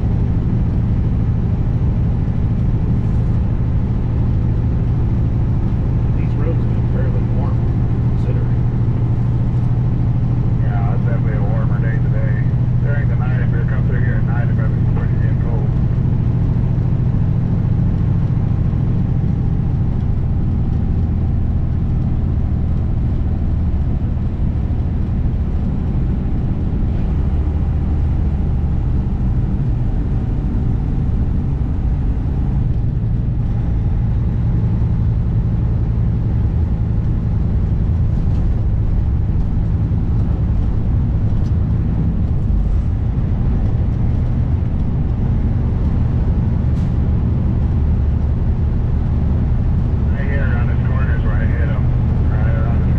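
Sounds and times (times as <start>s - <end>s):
road noise: 0.0s - 52.9s
truck diesel engine running: 0.0s - 52.9s.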